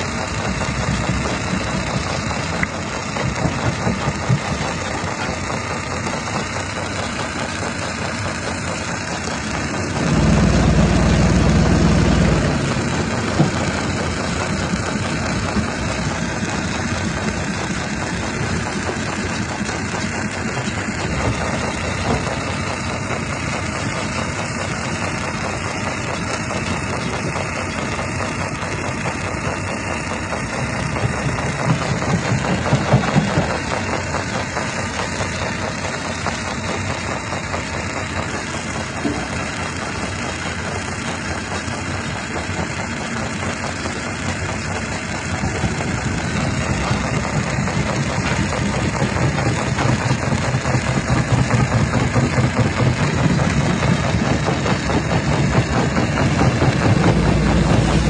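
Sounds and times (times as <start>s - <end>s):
rock crusher droning: 0.0s - 58.0s.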